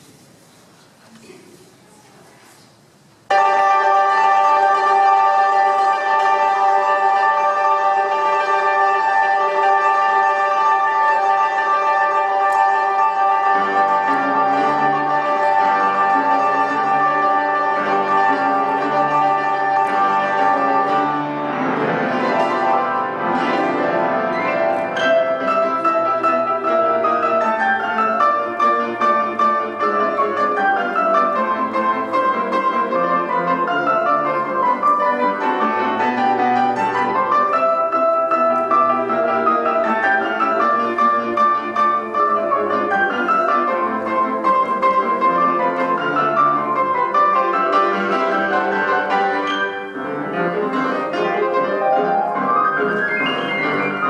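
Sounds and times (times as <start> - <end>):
grand piano duet: 0.0 - 54.0.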